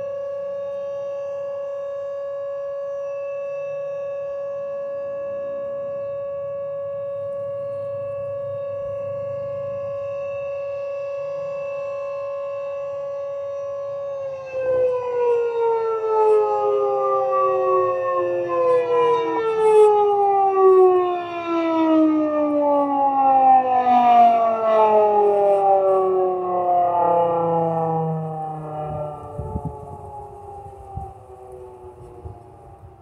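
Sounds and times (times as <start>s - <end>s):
second siren falling tones: 0.0s - 33.0s
warning siren winding down: 0.0s - 33.0s.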